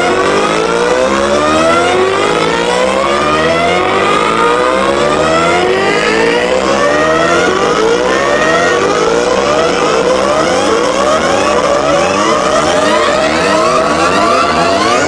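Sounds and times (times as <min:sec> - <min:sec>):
loud techno music: 0:00.0 - 0:15.0
rising synth sweeps: 0:00.0 - 0:15.0.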